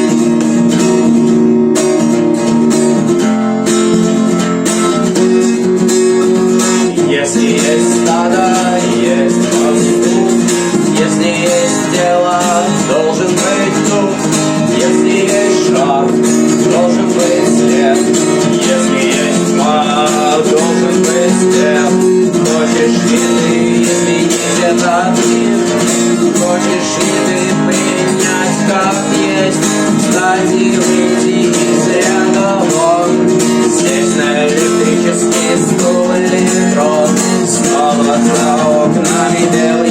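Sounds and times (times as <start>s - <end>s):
guitar strumming chords and melody: 0.0s - 39.9s.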